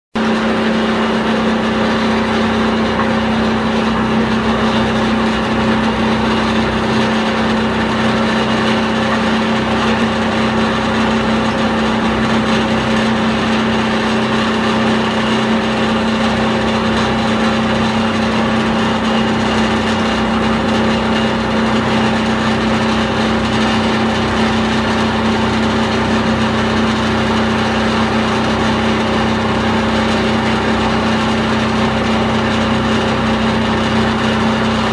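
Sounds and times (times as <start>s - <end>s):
machine hum with low tone: 0.2s - 34.9s.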